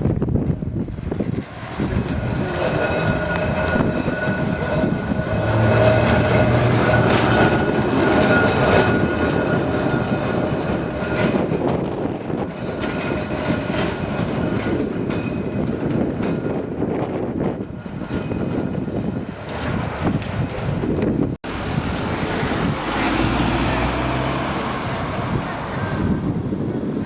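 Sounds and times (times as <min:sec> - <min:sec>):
tram wheels clicking over rail joints: 0:00.0 - 0:27.0
tram whine and rumble: 0:00.0 - 0:27.0.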